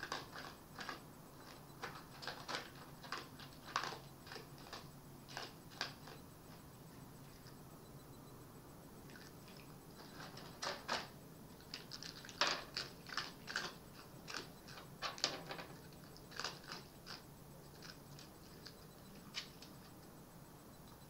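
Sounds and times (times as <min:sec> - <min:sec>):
fox crunching and chewing: 0:00.0 - 0:07.7, 0:09.0 - 0:20.2
faint low hum: 0:00.0 - 0:21.0.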